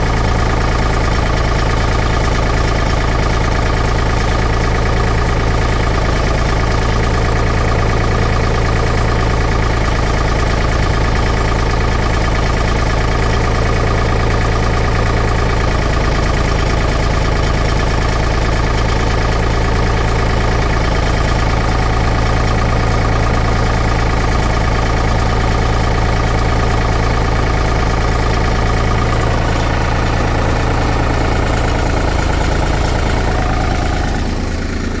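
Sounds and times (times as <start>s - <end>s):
diesel pump engine idling: 0.0s - 35.0s.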